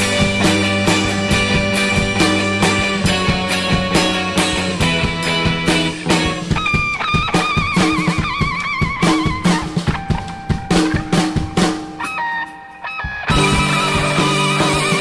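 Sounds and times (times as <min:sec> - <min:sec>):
high melody with vibrato: 0:00.0 - 0:09.4, 0:11.1 - 0:15.0
drum kit beat: 0:00.0 - 0:15.0
rock guitars: 0:00.0 - 0:15.0.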